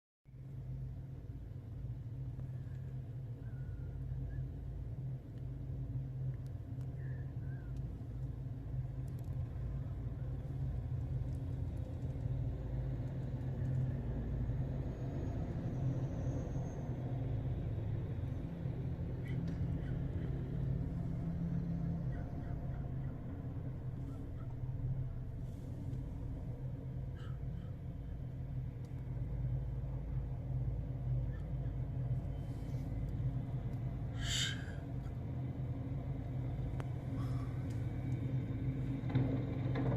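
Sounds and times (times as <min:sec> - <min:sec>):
low mechanical rumble: 0:00.3 - 0:39.9.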